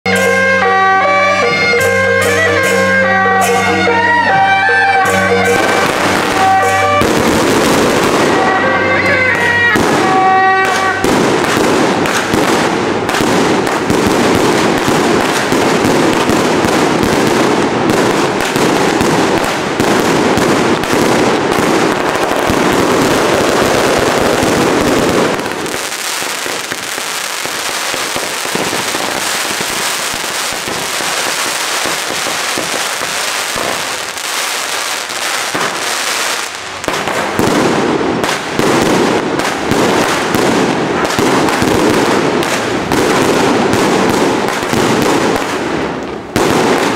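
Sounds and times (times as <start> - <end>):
firecrackers crackling: 0.1 - 46.9.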